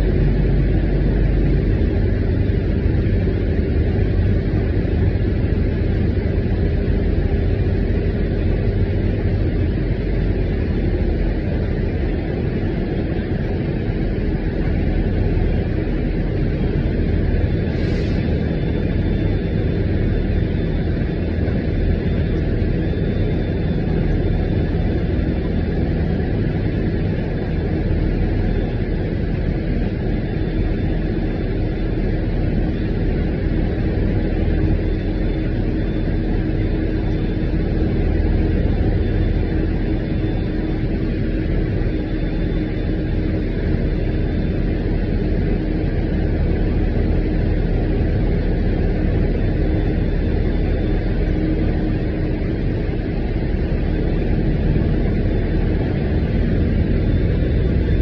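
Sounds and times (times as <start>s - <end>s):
bus engine rumble: 0.0s - 58.0s
faint steady whine: 0.0s - 58.0s.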